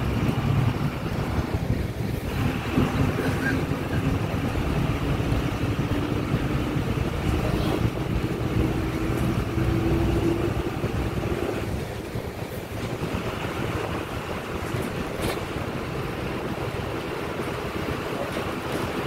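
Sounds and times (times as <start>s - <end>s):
vehicle engine and road noise: 0.0s - 19.0s
wind rumbling on microphone: 0.0s - 19.0s.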